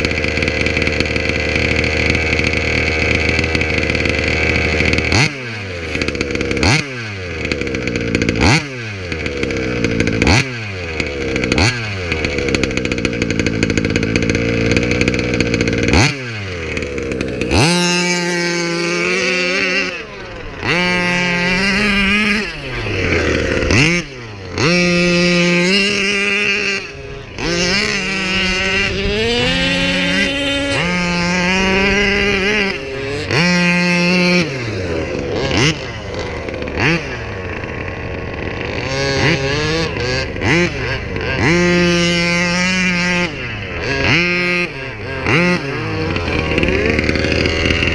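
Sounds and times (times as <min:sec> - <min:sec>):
two-stroke engine revving: 0:00.0 - 0:47.9.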